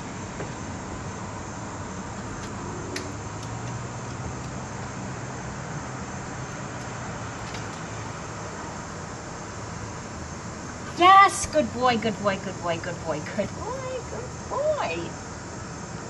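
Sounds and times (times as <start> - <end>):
outdoor hum and hiss: 0.0 - 16.0.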